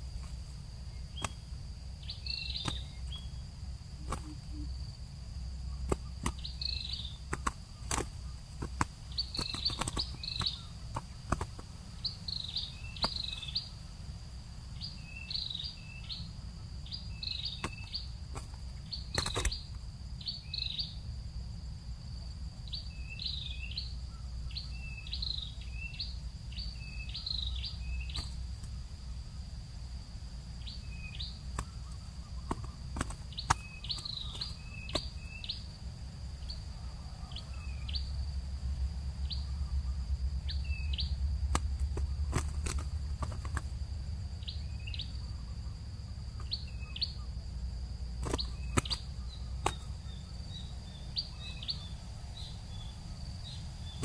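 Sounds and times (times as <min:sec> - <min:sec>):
small bird chirping: 0:00.0 - 0:14.0, 0:14.7 - 0:21.0, 0:22.6 - 0:28.8, 0:30.6 - 0:35.8, 0:36.4 - 0:38.3, 0:39.2 - 0:54.0.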